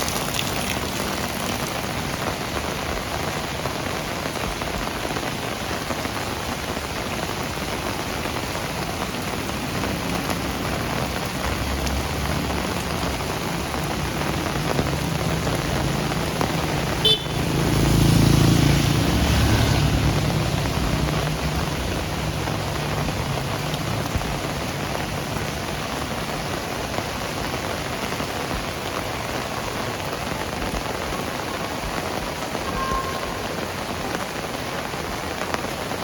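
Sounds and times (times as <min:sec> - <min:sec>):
heavy rain on hard surfaces: 0:00.0 - 0:36.0
vehicle passing on wet road: 0:00.0 - 0:36.0.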